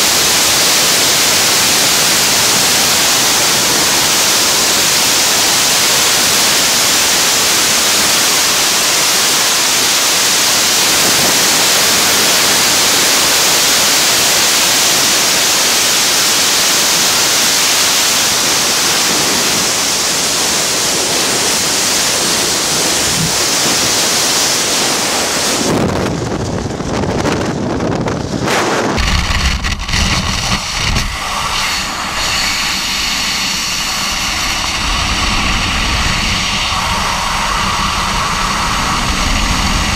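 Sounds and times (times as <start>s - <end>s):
freefall wind rushing: 0.0s - 39.9s.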